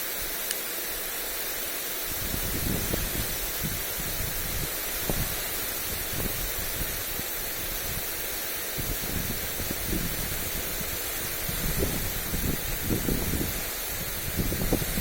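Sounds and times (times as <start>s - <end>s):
lawn sprinkler hissing: 0.0s - 15.0s
wind gusting on microphone: 2.1s - 15.0s.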